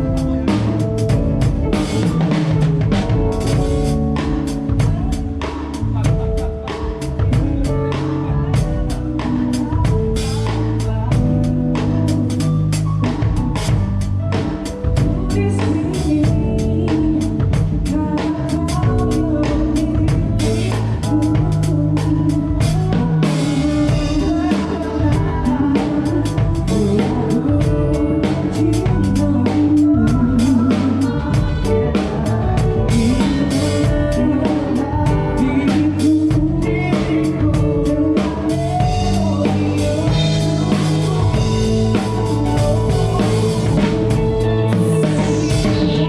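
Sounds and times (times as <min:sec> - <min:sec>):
band playing through a pa: 0:00.0 - 0:46.0
person singing: 0:00.0 - 0:46.0.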